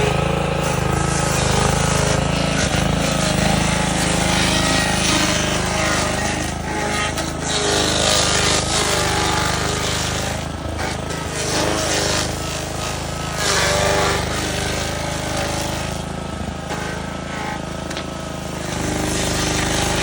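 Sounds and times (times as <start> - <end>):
stump grinder grinding wood: 0.0 - 20.0.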